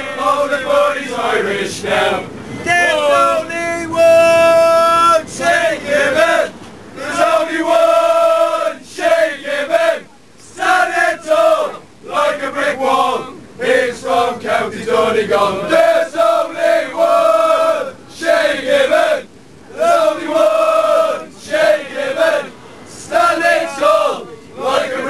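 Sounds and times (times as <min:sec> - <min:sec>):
crowd of men chanting and singing: 0:00.0 - 0:25.0.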